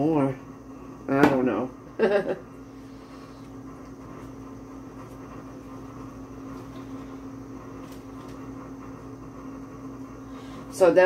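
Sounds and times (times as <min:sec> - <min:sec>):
appliance humming: 0:00.0 - 0:11.0.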